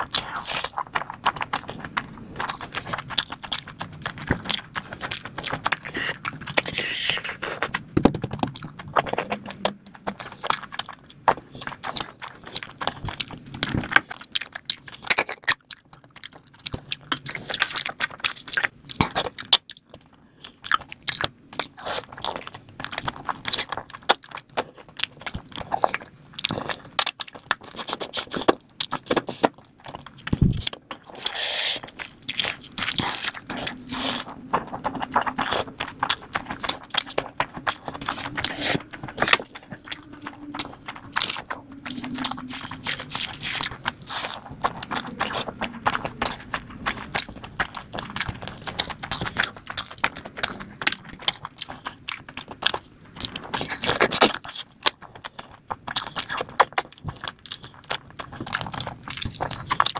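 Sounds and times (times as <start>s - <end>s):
person chewing with wet mouth sounds: 0.0s - 59.9s.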